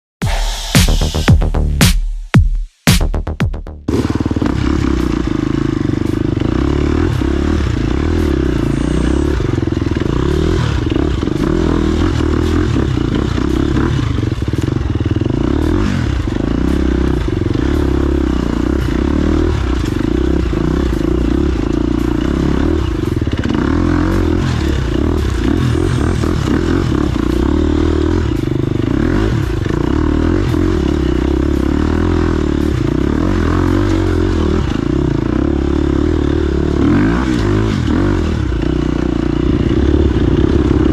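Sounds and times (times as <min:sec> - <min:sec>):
motorcycle engine running: 0:00.8 - 0:40.9.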